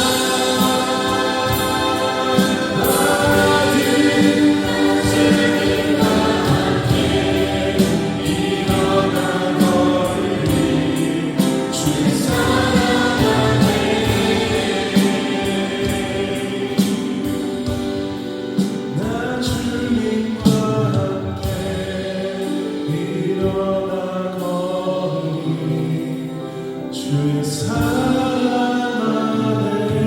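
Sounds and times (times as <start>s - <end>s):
choir singing: 0.0s - 30.0s.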